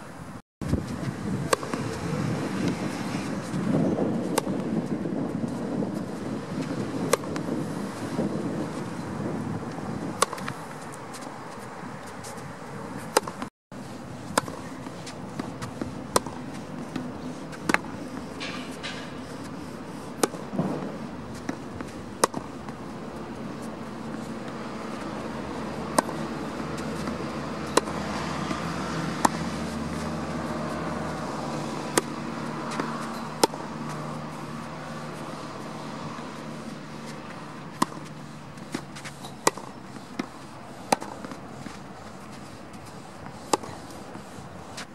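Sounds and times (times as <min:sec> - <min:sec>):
outdoor background noise: 0:00.0 - 0:44.9
tennis balls struck by rackets: 0:01.4 - 0:13.5, 0:14.2 - 0:44.9.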